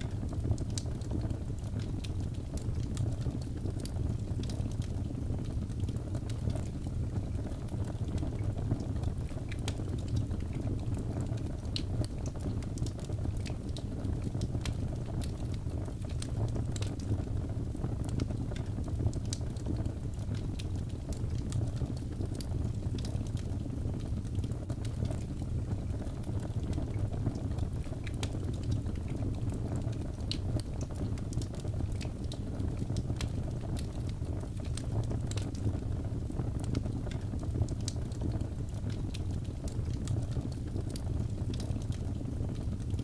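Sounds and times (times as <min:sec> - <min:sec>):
fire crackling and popping: 0:00.0 - 0:43.0
fire flames rumbling: 0:00.0 - 0:43.0.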